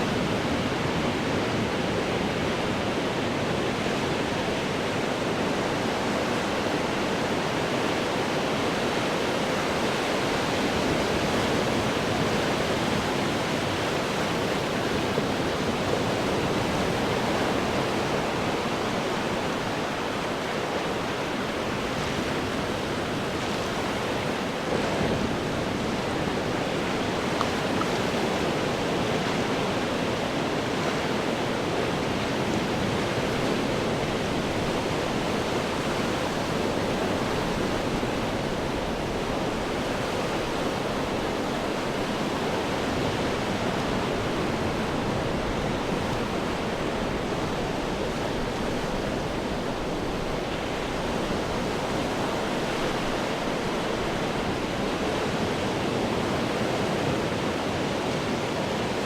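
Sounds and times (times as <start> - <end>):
ocean waves breaking on rocks: 0.1 - 59.0.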